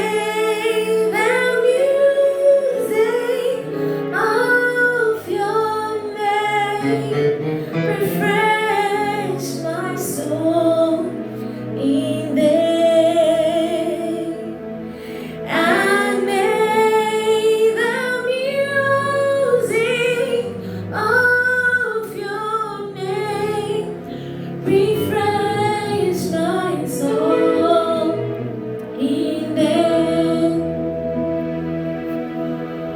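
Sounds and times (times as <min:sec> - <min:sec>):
woman singing a slow hymn: 0:00.0 - 0:07.3, 0:07.9 - 0:14.6, 0:15.4 - 0:31.0
soft instrumental accompaniment: 0:00.0 - 0:32.9.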